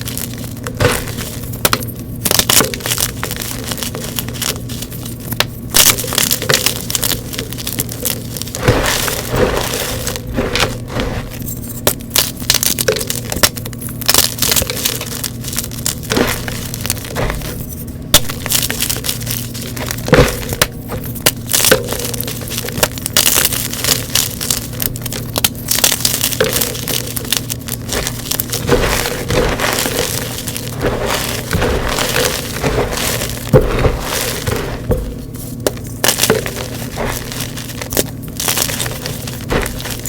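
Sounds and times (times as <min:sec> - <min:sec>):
chalk crunching and cracking: 0:00.0 - 0:40.0
steady low hum: 0:00.0 - 0:40.0.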